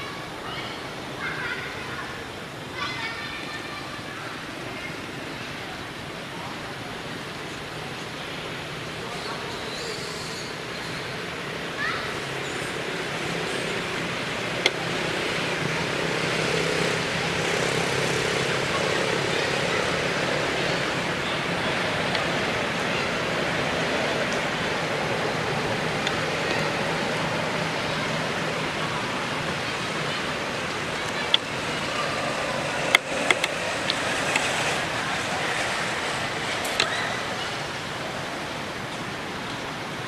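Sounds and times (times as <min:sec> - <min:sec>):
steady outdoor hiss: 0:00.0 - 0:40.0.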